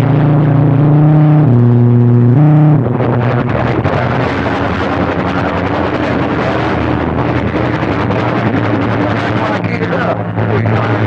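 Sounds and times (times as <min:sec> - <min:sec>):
crackling radio static hiss: 0:00.0 - 0:11.0
radio electronic tones: 0:00.0 - 0:11.0.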